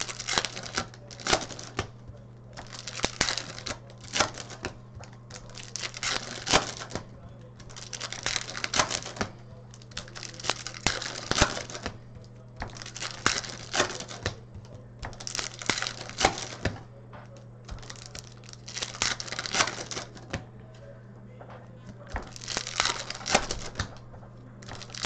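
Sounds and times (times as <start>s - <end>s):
wrappers crinkling and tearing: 0.0s - 20.5s, 21.9s - 25.0s
cards clicking: 0.0s - 25.0s
steady low hum: 0.0s - 25.0s.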